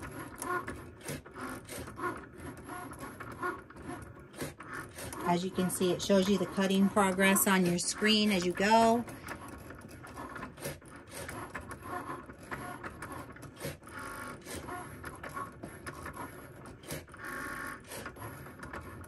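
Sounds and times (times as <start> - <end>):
cutting machine motors whirring: 0.0 - 19.0
small machine clicks: 0.0 - 19.0.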